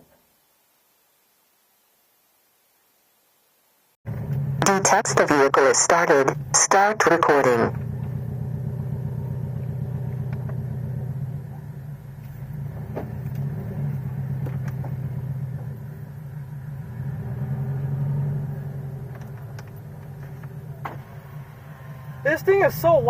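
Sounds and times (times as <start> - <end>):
car engine running: 4.1 - 23.0.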